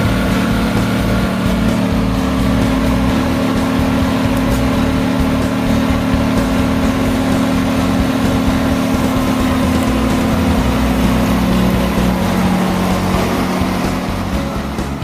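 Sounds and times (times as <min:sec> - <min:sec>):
wood chipper engine running: 0:00.0 - 0:15.0.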